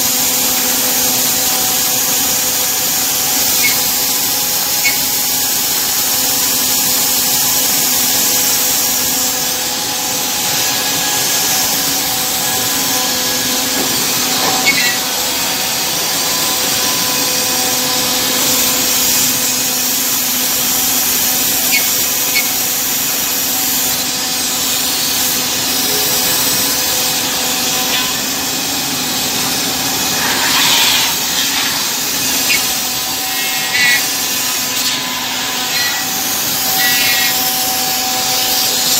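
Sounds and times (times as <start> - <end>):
router spindle whine: 0.0 - 38.9
bit cutting through wood: 0.6 - 6.3, 8.0 - 38.9.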